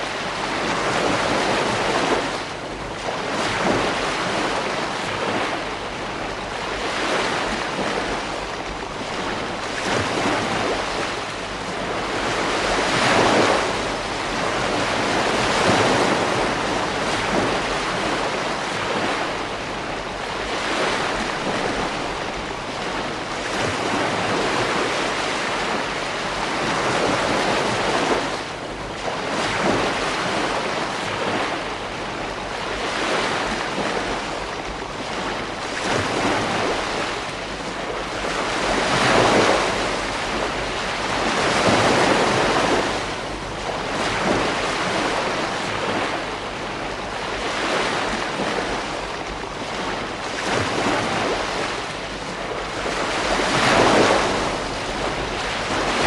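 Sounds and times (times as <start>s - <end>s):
ocean surf breaking: 6.8s - 28.4s, 29.0s - 56.0s.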